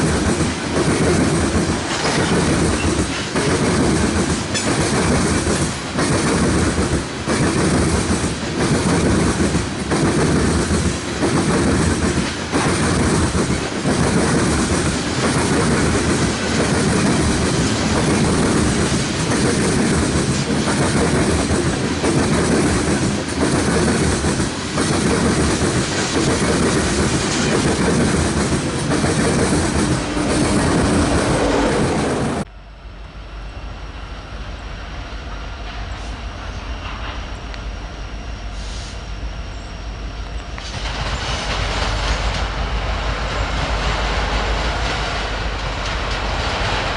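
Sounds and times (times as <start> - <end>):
freight train wheels clattering: 0.0 - 32.5, 40.4 - 46.9.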